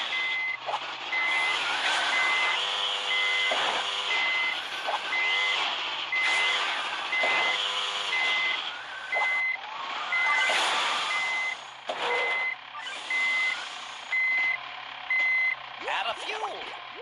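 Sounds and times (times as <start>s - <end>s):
reverse-warning beeper: 0.0s - 15.6s.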